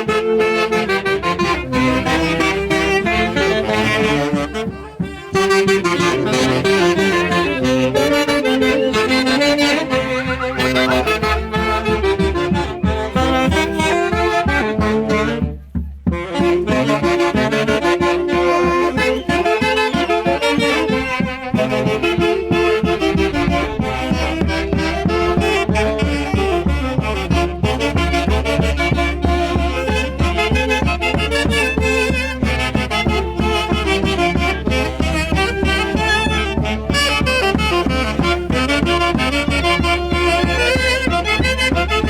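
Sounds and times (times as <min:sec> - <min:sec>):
band with saxophones and clarinets: 0:00.0 - 0:42.0.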